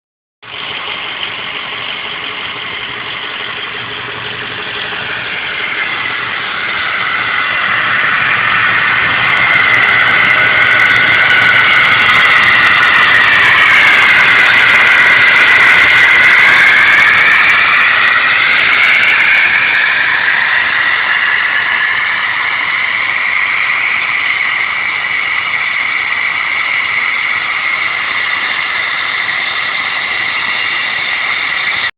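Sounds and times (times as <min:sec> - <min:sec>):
diesel truck engine idling: 0:00.4 - 0:31.9
high-pitched whine: 0:00.5 - 0:31.9.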